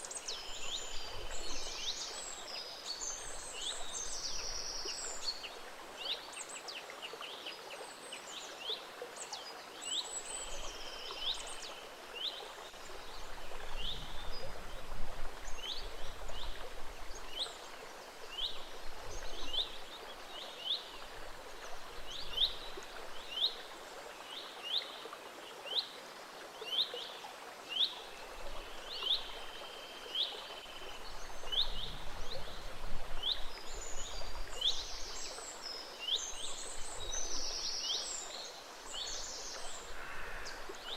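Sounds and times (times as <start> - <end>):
gentle stream running: 0.0 - 40.9.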